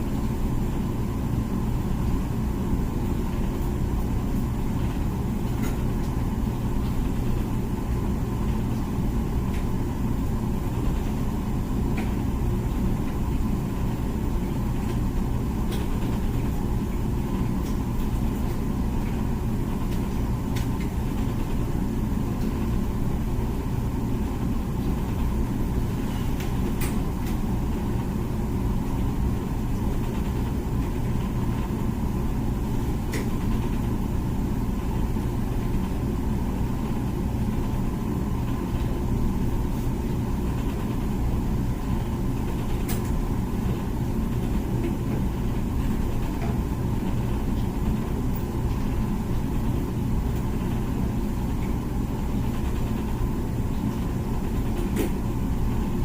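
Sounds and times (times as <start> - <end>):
dishwasher humming: 0.0 - 56.0.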